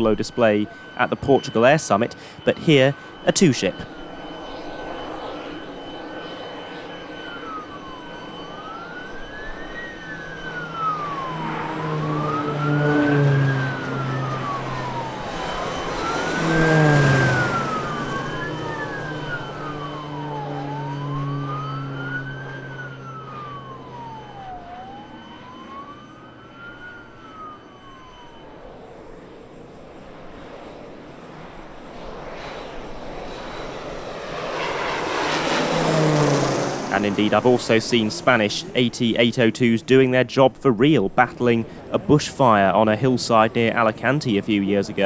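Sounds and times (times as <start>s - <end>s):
siren wailing: 0.0s - 45.0s
turboprop aircraft passing: 0.0s - 45.0s.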